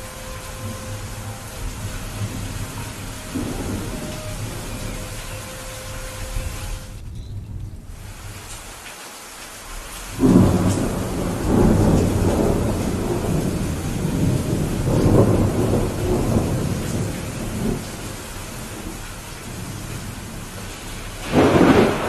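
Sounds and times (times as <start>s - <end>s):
rolling thunder: 0.0s - 8.4s, 10.0s - 22.0s
steady rain: 0.0s - 22.0s.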